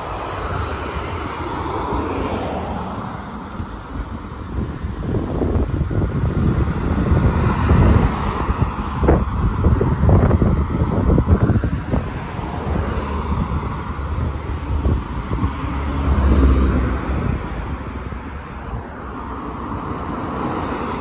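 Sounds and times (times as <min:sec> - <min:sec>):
cars driving past: 0:00.0 - 0:21.0
wind buffeting microphone: 0:00.0 - 0:21.0.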